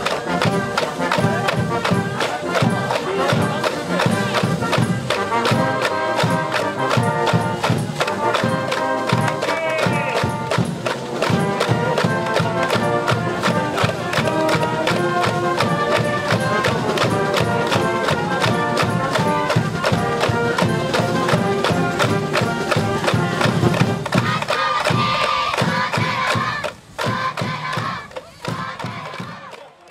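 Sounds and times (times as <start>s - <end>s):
brass band playing: 0.0s - 29.6s
steady drum beat: 0.0s - 29.7s.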